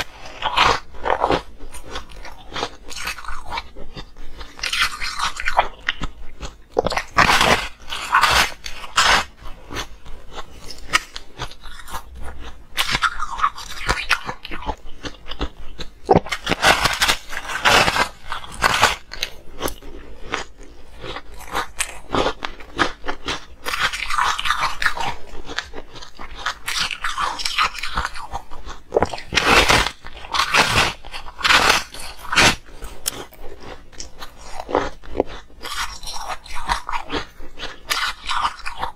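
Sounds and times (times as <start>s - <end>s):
crunching ice: 0.0s - 38.9s.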